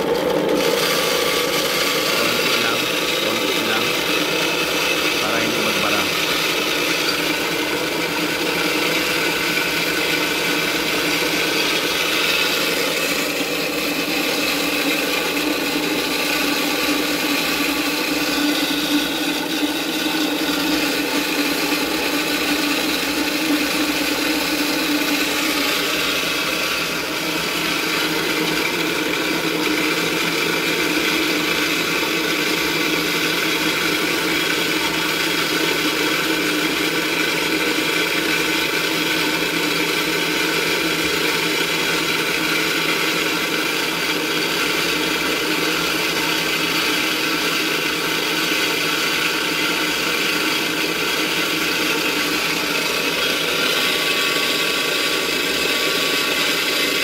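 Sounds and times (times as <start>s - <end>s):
electric grinder grinding rice: 0.0s - 57.0s.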